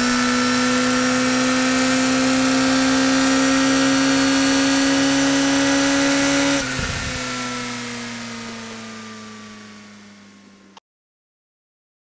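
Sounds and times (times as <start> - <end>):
motorcycle engine at high revs: 0.0 - 10.8.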